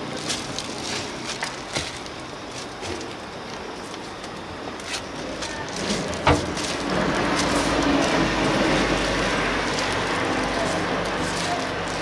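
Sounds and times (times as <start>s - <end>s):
outdoor street noise: 0.0s - 12.0s.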